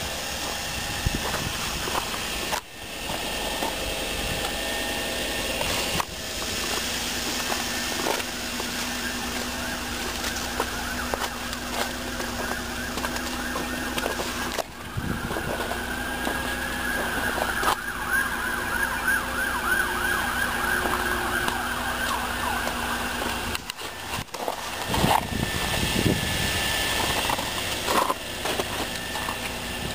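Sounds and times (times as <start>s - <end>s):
emergency vehicle siren: 0.0s - 29.9s
steady low hum: 0.0s - 29.9s.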